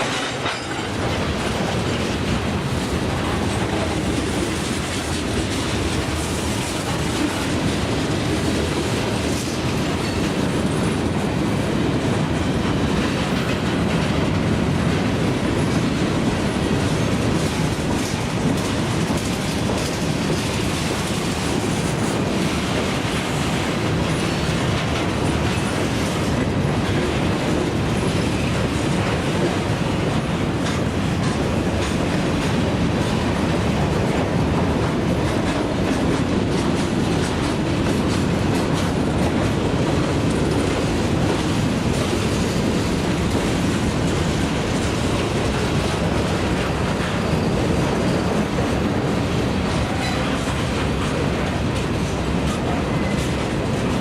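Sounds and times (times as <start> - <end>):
freight train cars rumbling past: 0.0 - 54.0
wheels clicking over rail joints: 0.0 - 54.0.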